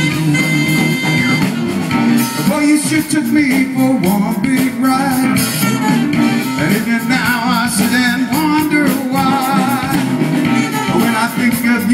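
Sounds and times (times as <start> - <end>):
electric guitar: 0.0 - 11.9
live band playing: 0.0 - 11.9
wavering lead line: 0.0 - 11.9.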